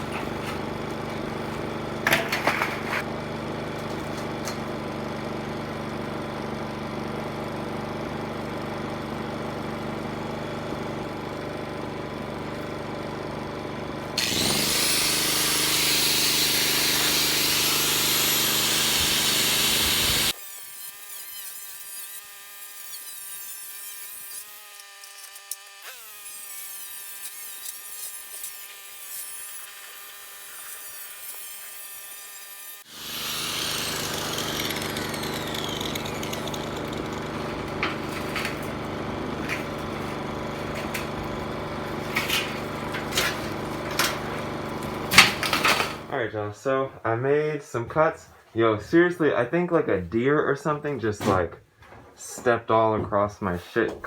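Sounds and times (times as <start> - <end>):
power saw cutting: 0.0 - 46.2.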